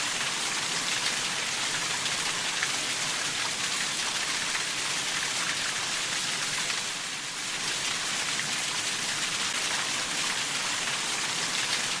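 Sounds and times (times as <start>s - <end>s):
steady rainfall: 0.0s - 12.0s.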